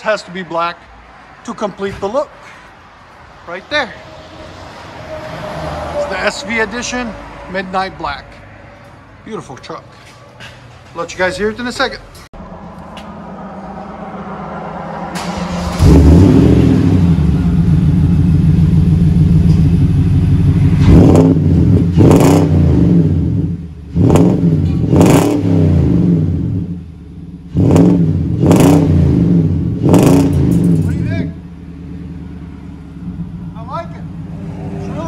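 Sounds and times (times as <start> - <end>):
truck engine idling and revving: 0.0 - 35.0.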